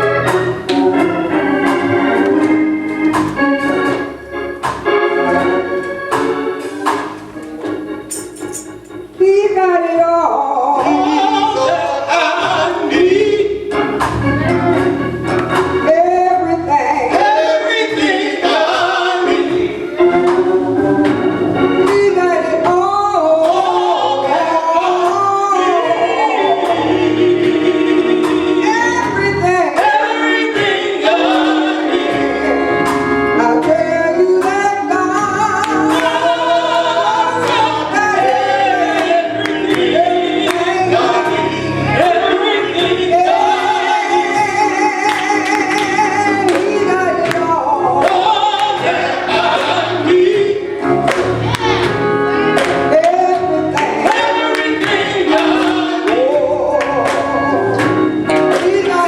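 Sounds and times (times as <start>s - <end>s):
group singing gospel song: 0.0s - 59.0s
instrumental accompaniment: 0.0s - 59.0s.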